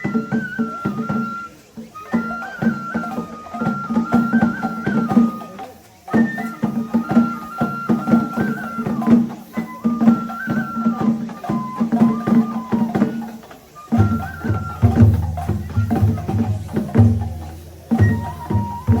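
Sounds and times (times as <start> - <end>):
bamboo flute melody: 0.0 - 19.0
steady drumming: 0.0 - 19.0.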